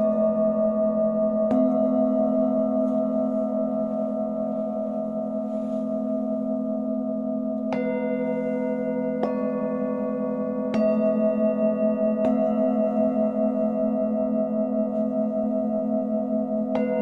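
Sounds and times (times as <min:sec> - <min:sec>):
singing bowl struck: 0:00.0 - 0:17.0
singing bowls ringing: 0:00.0 - 0:17.0.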